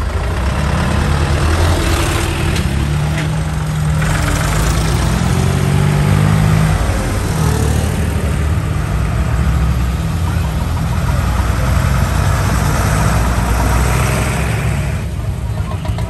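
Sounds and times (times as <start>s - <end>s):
tractor engines driving past: 0.0s - 16.0s.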